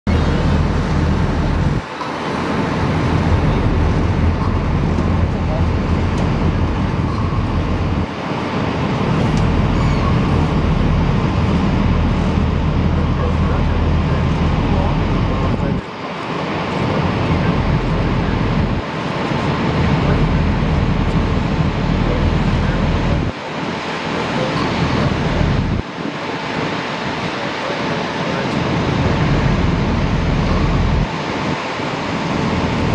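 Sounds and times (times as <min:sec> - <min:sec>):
low engine-like rumble: 0:00.1 - 0:32.9
water rushing: 0:00.1 - 0:32.9
wind buffeting microphone: 0:00.1 - 0:32.9.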